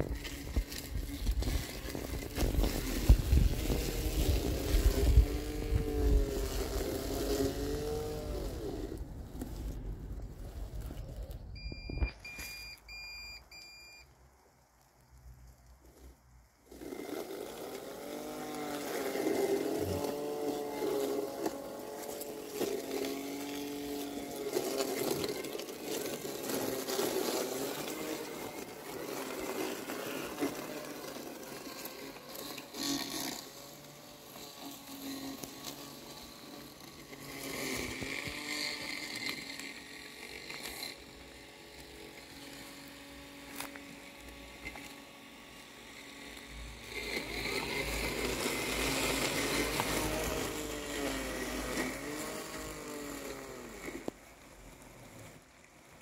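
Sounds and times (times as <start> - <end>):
robotic mower motor whirring: 0.0 - 14.0, 14.8 - 56.0.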